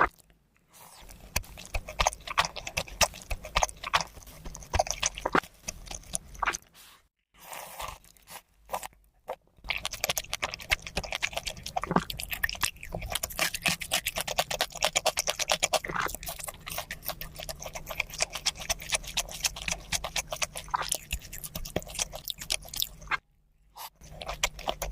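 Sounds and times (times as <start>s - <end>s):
chewing and crunching seafood: 0.0s - 24.9s.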